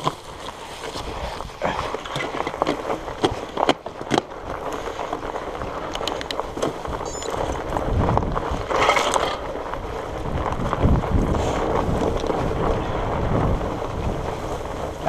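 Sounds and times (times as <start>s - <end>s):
grass swishing against bike: 0.0s - 3.7s, 4.3s - 15.0s
wind noise on microphone: 0.0s - 15.0s.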